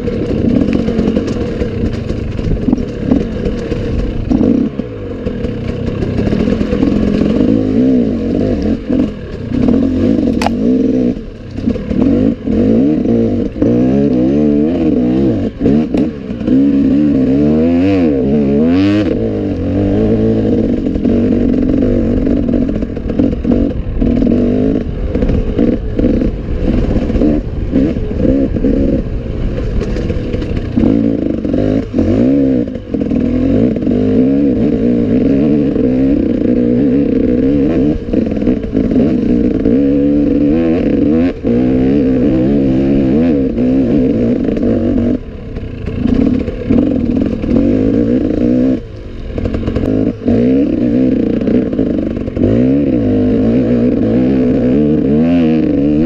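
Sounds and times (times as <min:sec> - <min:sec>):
knocks and rattles from motorcycle: 0:00.0 - 0:56.0
motorcycle engine revving: 0:00.0 - 0:56.0.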